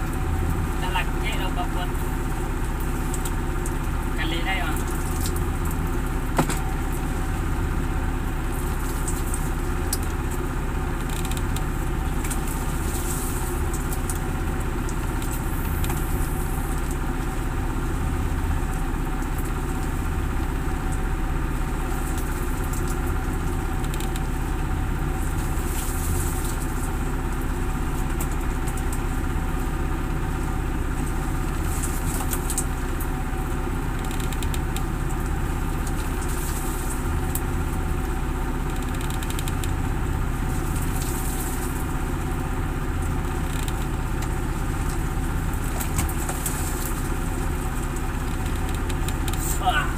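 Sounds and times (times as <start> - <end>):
boat engine idling: 0.0 - 49.9.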